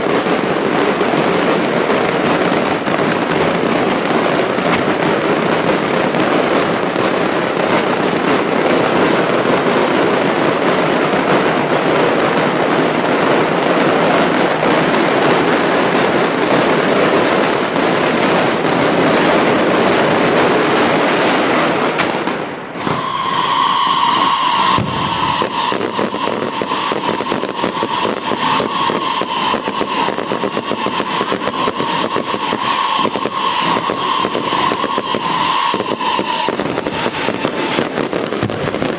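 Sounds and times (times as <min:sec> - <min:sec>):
firecrackers crackling: 0:00.0 - 0:38.9
firework high whistle: 0:00.0 - 0:38.9.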